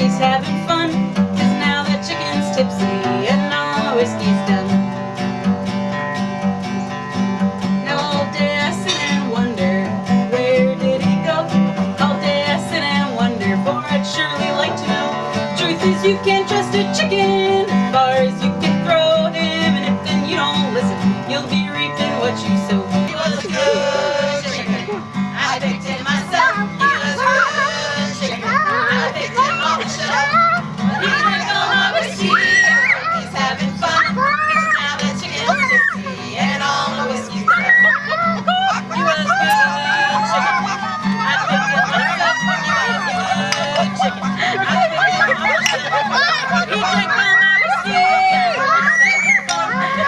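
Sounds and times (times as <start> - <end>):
acoustic guitar picking and strumming: 0.0 - 50.0.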